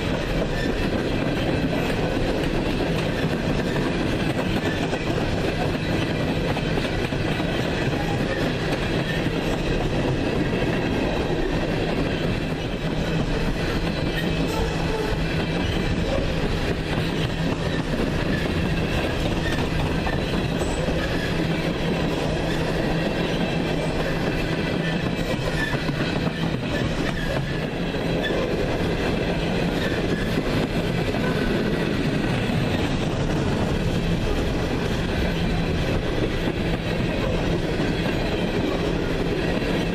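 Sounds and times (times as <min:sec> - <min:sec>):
high ringing of wheel on rail: 0:00.0 - 0:39.9
train wheels clickety-clack: 0:00.0 - 0:39.9.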